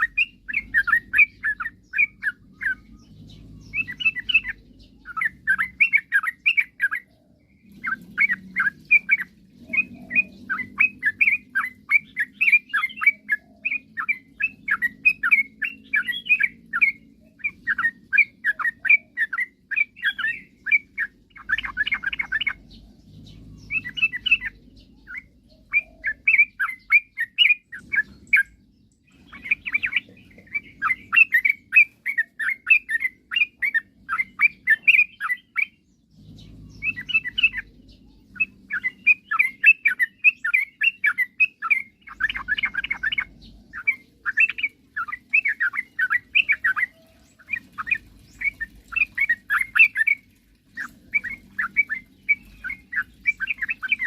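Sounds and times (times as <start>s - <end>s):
bird singing chirping phrases: 0.0s - 54.0s.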